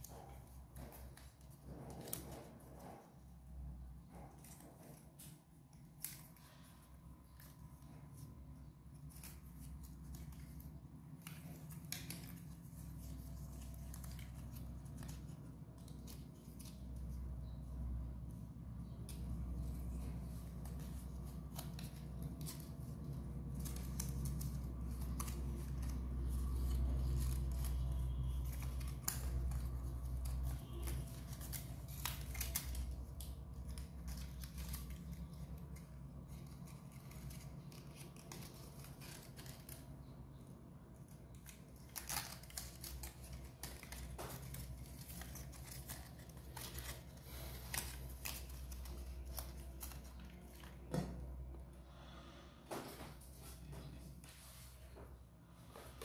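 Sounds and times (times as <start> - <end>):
paper crinkling: 0.0 - 51.4
steady low hum: 0.0 - 56.0.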